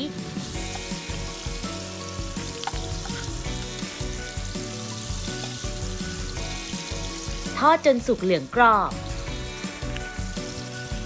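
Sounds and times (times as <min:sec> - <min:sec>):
oil sizzling and bubbling: 0:00.0 - 0:11.0.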